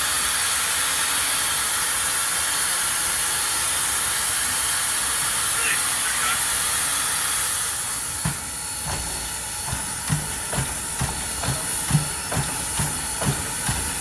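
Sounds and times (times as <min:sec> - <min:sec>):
steam hissing: 0:00.0 - 0:14.0
steam locomotive exhaust beats: 0:00.0 - 0:14.0.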